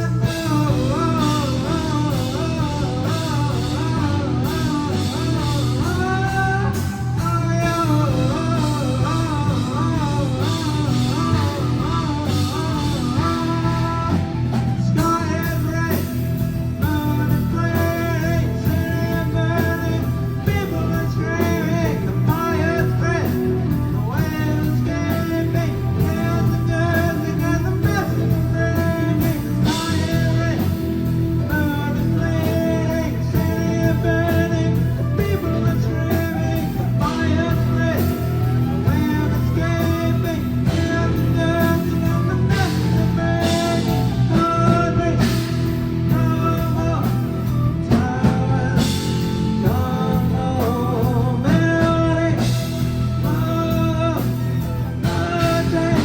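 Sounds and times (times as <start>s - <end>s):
bass guitar: 0.0s - 56.0s
drums: 0.0s - 56.0s
electric guitar: 0.0s - 56.0s
person singing: 0.0s - 56.0s.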